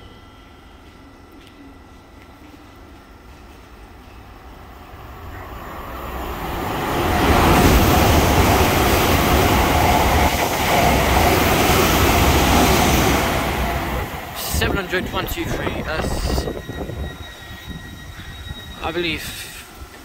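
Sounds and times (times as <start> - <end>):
train passing at speed: 3.0 - 20.0.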